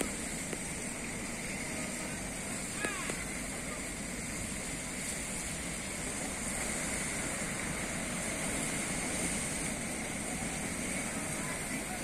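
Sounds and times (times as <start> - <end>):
sea waves and surf rushing: 0.0 - 12.0.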